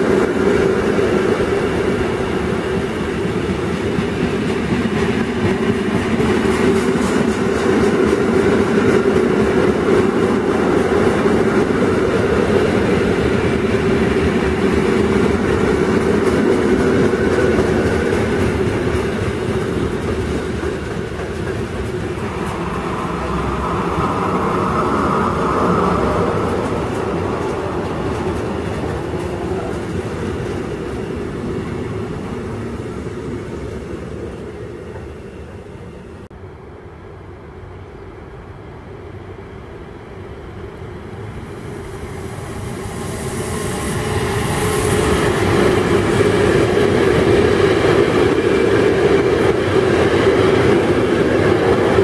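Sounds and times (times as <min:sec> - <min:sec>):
freight train wheels on rails: 0:00.0 - 0:52.0.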